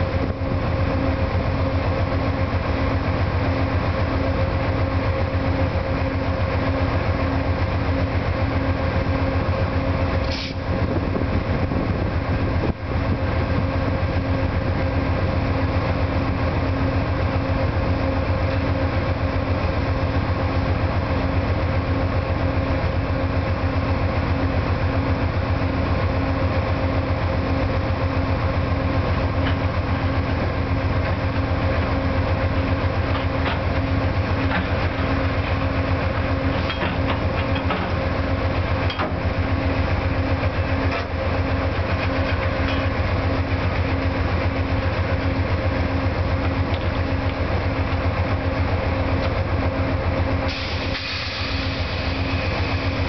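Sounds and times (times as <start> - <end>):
diesel engines idling: 0.0 - 53.0.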